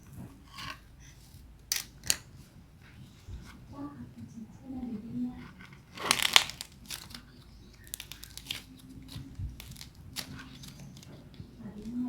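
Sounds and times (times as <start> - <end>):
dried clay crust crackling: 0.0 - 12.0.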